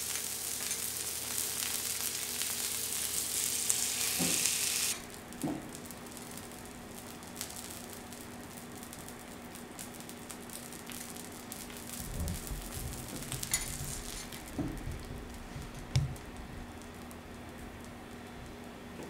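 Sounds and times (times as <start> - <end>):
food sizzling on a griddle: 0.0 - 15.6.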